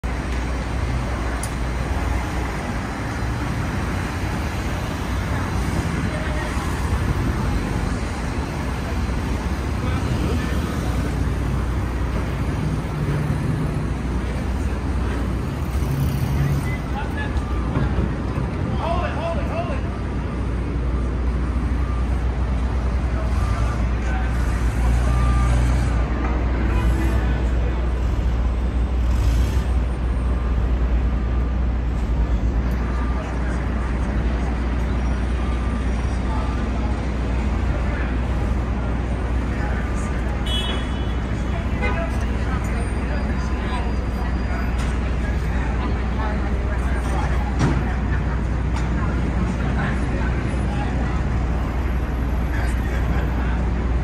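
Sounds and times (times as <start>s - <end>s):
city street traffic: 0.0s - 54.0s
faint passers-by voices: 0.0s - 54.0s.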